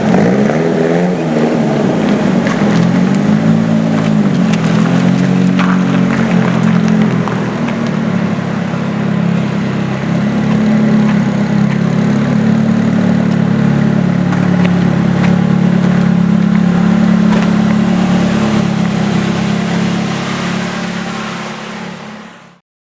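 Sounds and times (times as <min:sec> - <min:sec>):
car engine idling: 0:00.0 - 0:22.5.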